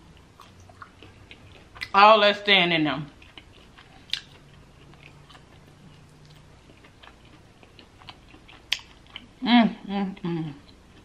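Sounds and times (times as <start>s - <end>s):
chewing with mouth clicks: 0.1s - 2.0s, 3.1s - 9.4s, 10.2s - 11.0s.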